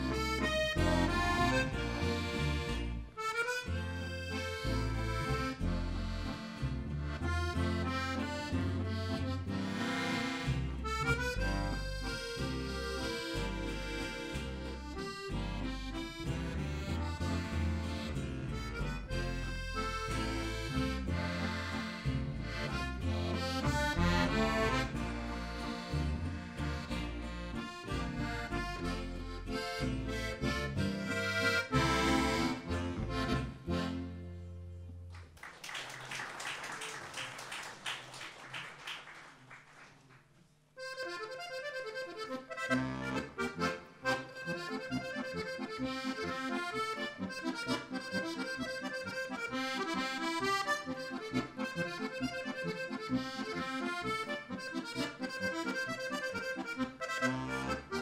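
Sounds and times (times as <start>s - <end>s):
button accordion folk music: 0.0s - 34.9s, 40.8s - 58.0s
double bass: 0.0s - 35.1s, 41.1s - 58.0s
guitar: 0.0s - 35.4s, 40.8s - 58.0s.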